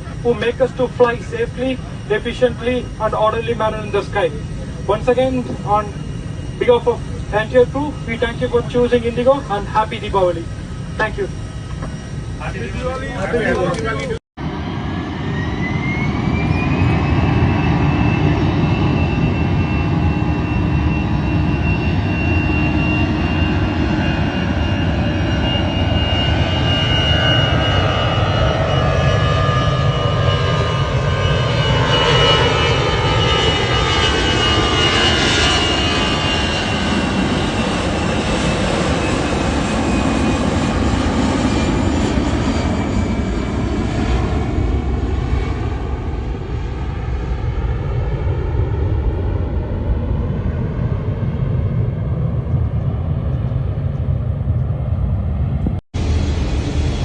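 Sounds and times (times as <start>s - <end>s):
jet engine rumble: 0.0s - 57.0s
jet engine whine: 0.0s - 57.0s.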